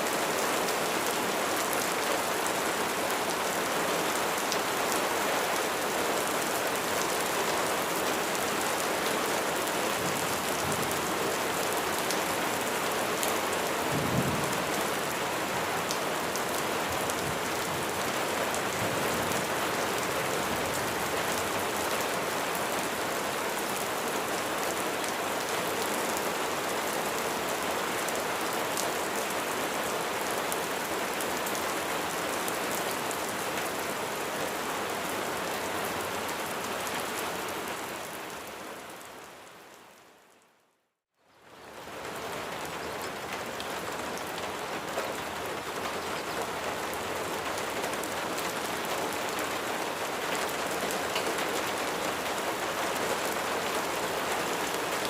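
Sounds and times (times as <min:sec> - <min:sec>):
rain falling: 0:00.0 - 0:40.6, 0:41.3 - 0:55.0.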